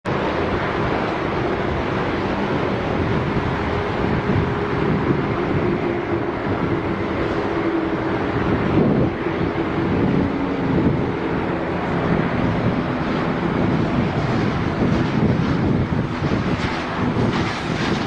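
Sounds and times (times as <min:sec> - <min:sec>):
jet engines rushing: 0:00.0 - 0:18.0
low engine hum: 0:00.1 - 0:18.0.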